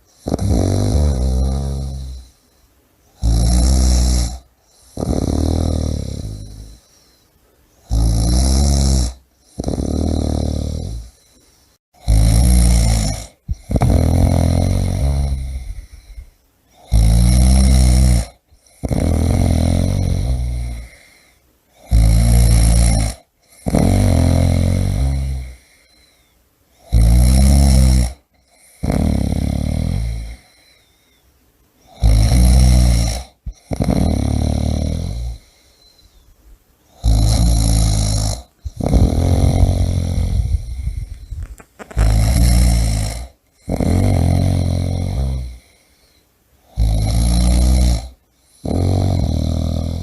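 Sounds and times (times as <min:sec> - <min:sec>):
person snoring: 0:00.1 - 0:02.4, 0:03.2 - 0:07.2, 0:07.8 - 0:26.2, 0:26.8 - 0:30.9, 0:31.8 - 0:36.0, 0:36.9 - 0:50.0.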